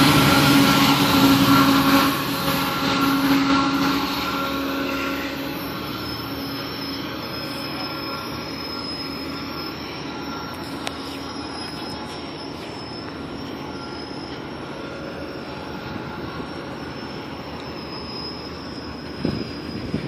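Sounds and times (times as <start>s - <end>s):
high-pitched wheel squeal: 0.0s - 20.0s
train running: 0.0s - 20.0s.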